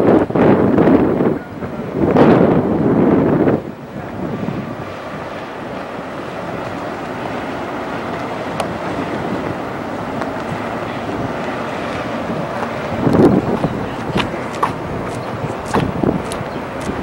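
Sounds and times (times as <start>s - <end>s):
constant rushing hiss: 0.0s - 17.0s.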